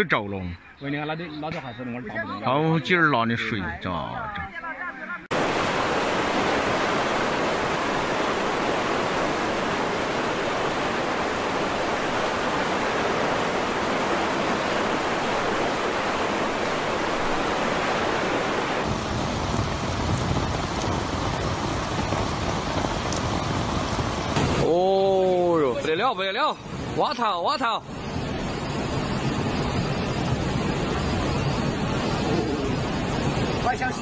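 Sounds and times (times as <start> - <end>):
water and rain noise: 5.2 - 34.0
floodwater roaring: 5.3 - 34.0.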